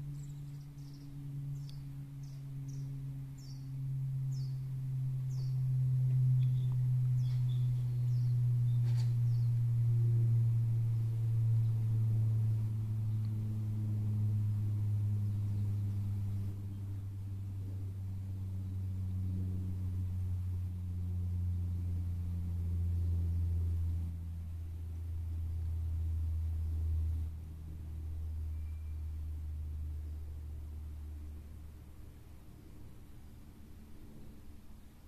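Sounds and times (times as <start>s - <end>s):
jet aircraft passing overhead: 0.0s - 35.0s.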